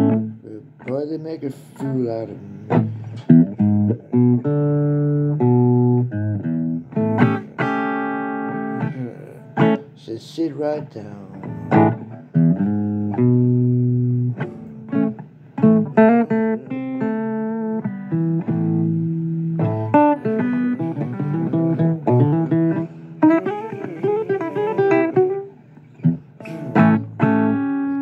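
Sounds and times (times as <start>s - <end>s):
blues guitar playing: 0.0s - 28.0s.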